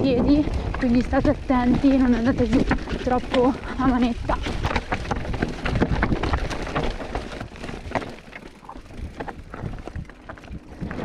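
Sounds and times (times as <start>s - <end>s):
wind on microphone: 0.0s - 8.0s, 8.7s - 11.0s
bike rattling over rocks: 0.0s - 11.0s.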